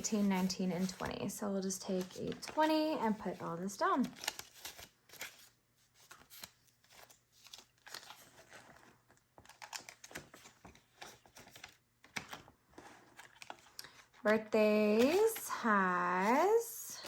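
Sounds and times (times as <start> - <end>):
banknotes rustling and clicking: 0.0 - 17.0.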